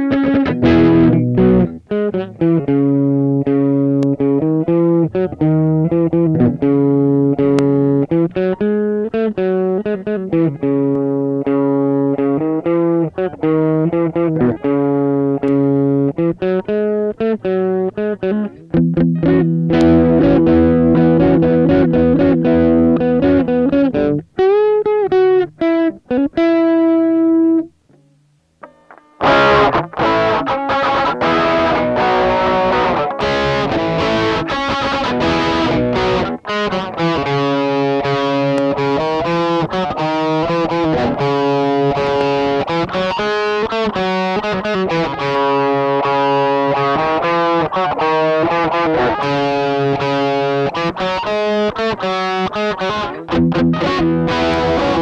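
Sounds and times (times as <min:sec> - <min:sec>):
overdriven electric guitar: 0:00.0 - 0:55.0.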